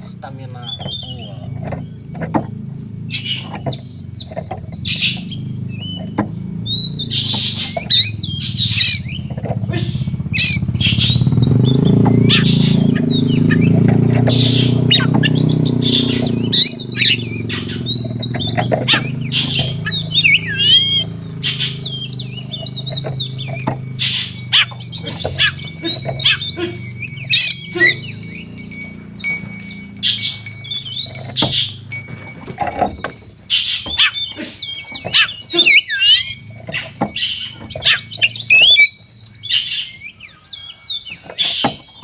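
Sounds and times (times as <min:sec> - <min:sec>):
songbird singing: 0:00.0 - 0:42.0.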